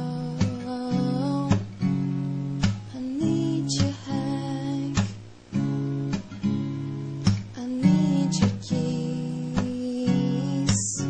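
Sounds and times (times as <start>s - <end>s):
song with strummed guitar: 0.0s - 11.0s.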